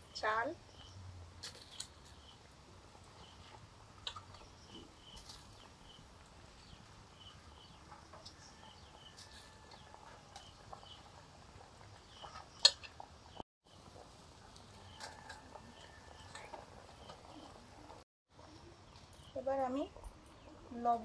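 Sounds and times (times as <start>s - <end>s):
wet rice patters: 0.0s - 19.1s.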